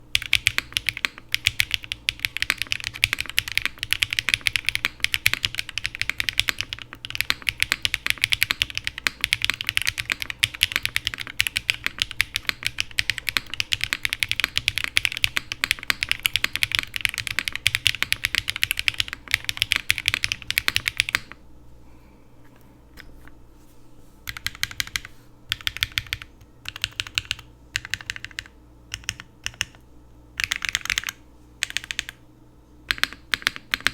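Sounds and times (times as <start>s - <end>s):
mechanical keyboard typing: 0.1s - 21.4s, 24.3s - 29.8s, 30.4s - 32.2s, 32.9s - 33.9s.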